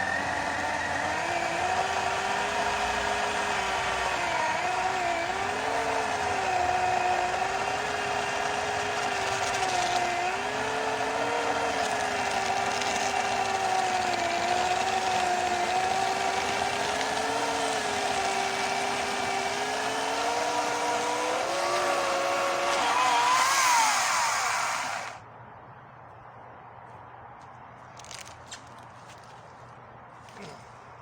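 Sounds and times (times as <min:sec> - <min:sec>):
electric chainsaw cutting wood: 0:00.0 - 0:25.2.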